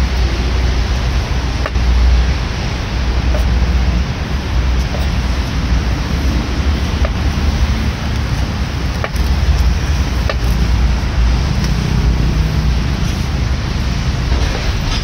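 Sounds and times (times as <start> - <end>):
low rumbling background: 0.0 - 15.0.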